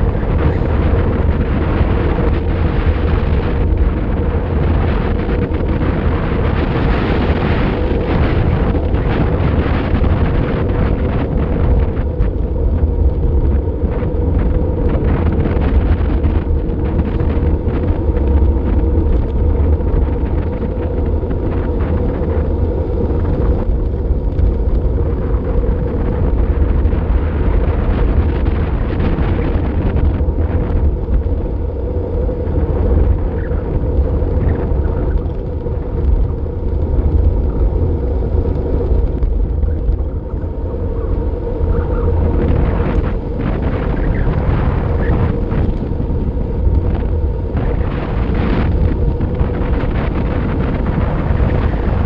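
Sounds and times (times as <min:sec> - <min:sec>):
wind rumbling on microphone: 0:00.0 - 0:52.0.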